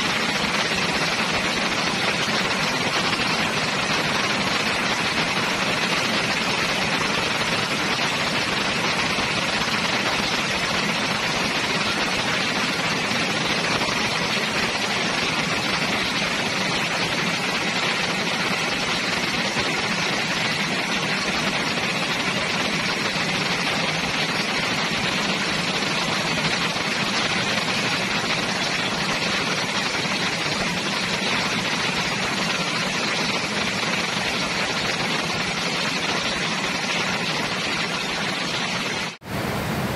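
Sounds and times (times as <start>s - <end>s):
rain on trees and rooftops: 0.0s - 39.9s.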